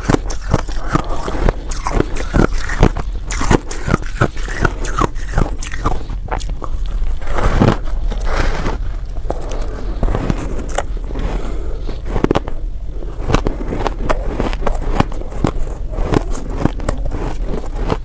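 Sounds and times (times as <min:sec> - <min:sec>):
crunching and chewing shaved ice: 0:00.0 - 0:18.0.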